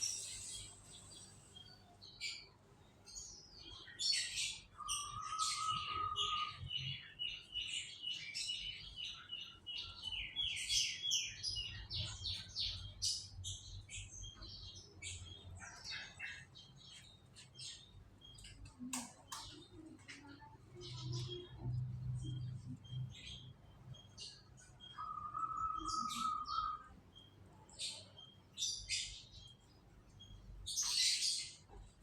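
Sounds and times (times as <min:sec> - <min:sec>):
canary singing: 0:00.0 - 0:32.0.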